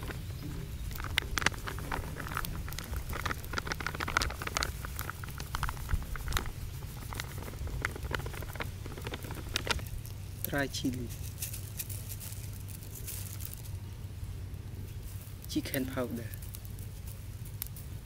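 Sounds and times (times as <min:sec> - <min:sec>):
low rumble: 0:00.0 - 0:15.5.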